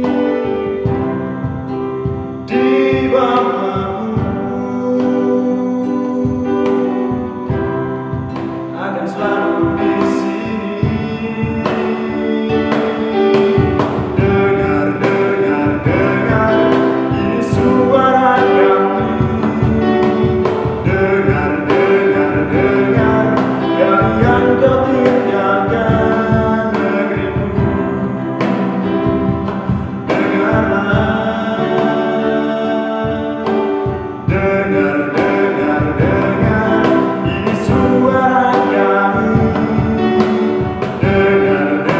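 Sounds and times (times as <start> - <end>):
acoustic guitar: 0.0 - 41.9
cajon beat: 0.0 - 41.9
keyboard: 0.0 - 41.9
man singing: 0.0 - 41.9.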